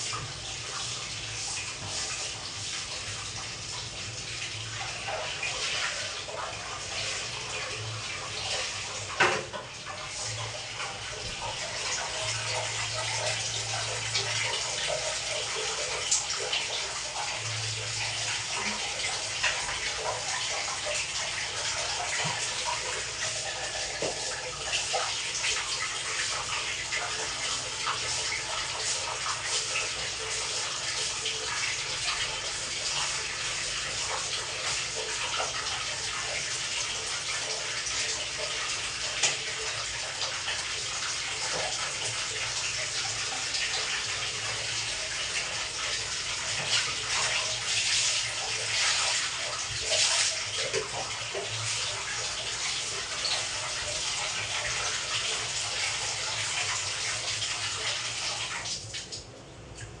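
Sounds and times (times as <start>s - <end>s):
tap water running: 0.0s - 60.0s.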